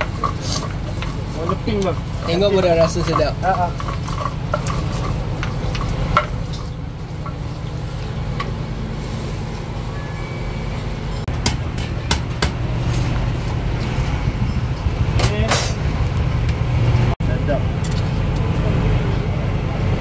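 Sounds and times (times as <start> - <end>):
low motor rumble: 0.0 - 20.0.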